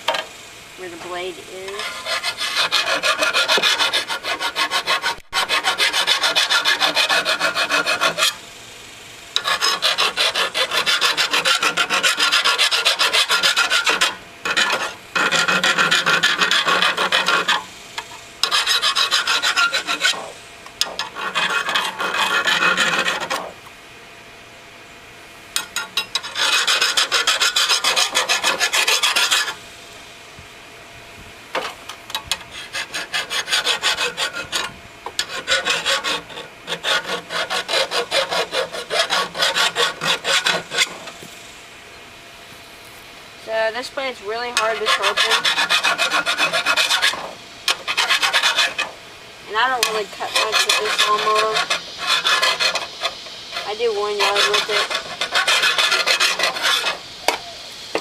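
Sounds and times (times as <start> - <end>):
file rasping on steel blade: 1.0 - 8.4, 9.4 - 23.6, 25.6 - 29.6, 31.6 - 41.2, 44.4 - 57.4.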